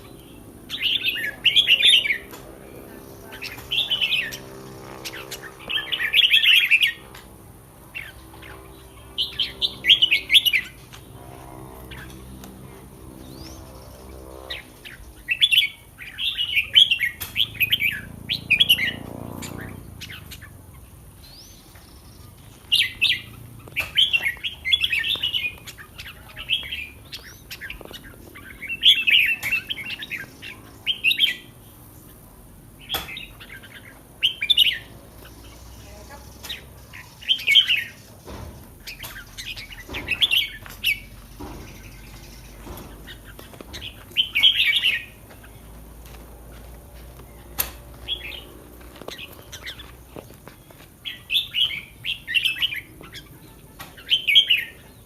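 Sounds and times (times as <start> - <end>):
bird singing warbled phrases: 0.0 - 55.0.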